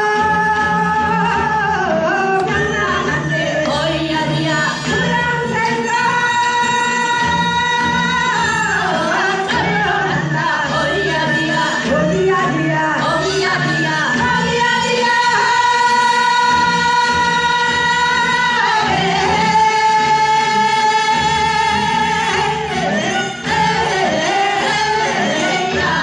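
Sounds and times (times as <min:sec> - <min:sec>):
musical accompaniment: 0:00.0 - 0:26.0.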